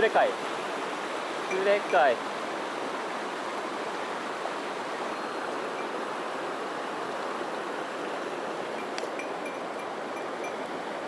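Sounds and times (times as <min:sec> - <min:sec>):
stream water rushing over rocks: 0:00.0 - 0:11.0.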